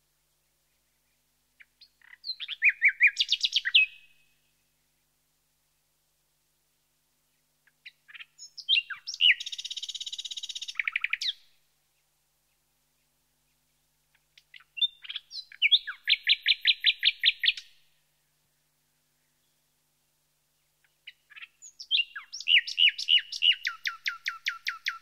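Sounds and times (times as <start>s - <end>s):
nightingale singing: 0.2s - 5.1s, 7.2s - 17.9s, 20.5s - 25.0s.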